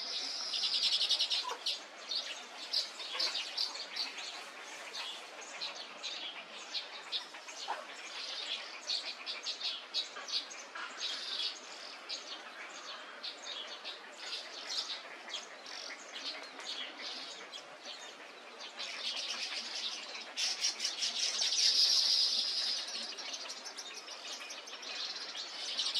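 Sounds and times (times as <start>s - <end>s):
many birds chirping: 0.0s - 25.9s.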